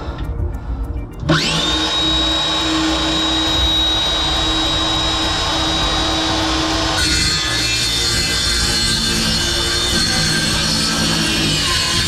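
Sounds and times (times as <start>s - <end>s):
power tool whining: 1.2s - 12.0s.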